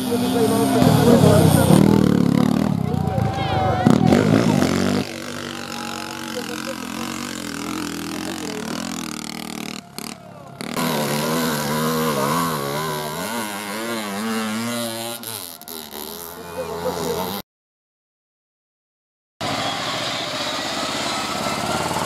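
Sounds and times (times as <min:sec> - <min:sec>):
motorcycle engines revving: 0:00.0 - 0:17.4, 0:19.4 - 0:22.0.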